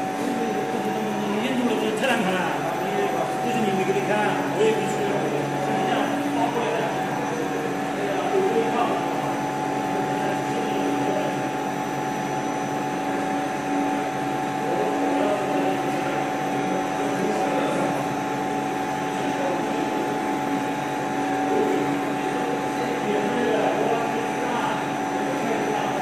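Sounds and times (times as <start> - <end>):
machinery hum with whining tones: 0.0 - 26.0.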